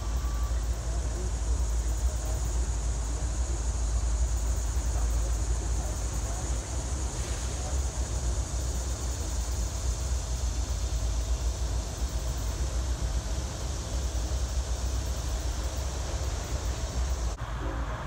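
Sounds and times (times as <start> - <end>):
diesel locomotive rumbling: 0.0 - 18.0
hiss: 0.0 - 18.0.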